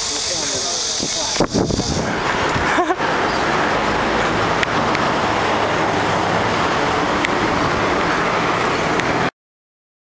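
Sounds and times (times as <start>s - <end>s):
rushing noise of bicycle riding: 0.0s - 9.3s.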